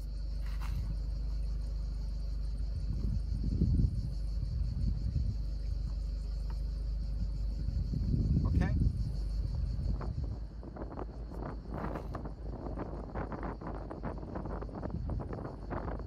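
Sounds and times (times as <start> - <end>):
insects chirring: 0.0 - 16.0
wind rumble on the microphone: 0.0 - 16.0.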